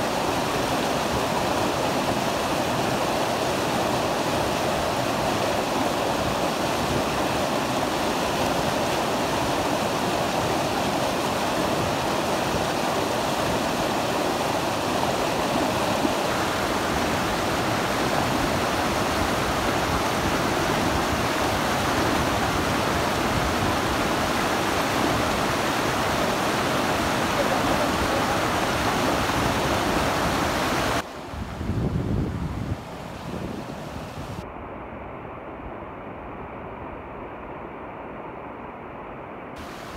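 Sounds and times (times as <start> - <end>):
rushing mountain stream: 0.0 - 34.5, 39.6 - 39.9.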